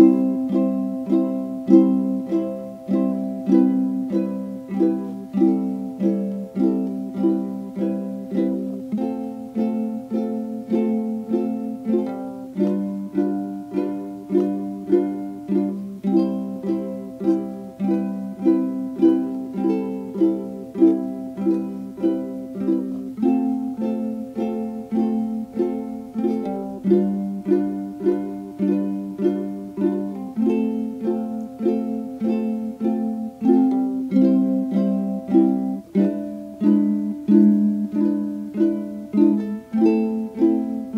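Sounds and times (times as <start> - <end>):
plucked string instrument strumming: 0.0 - 40.9.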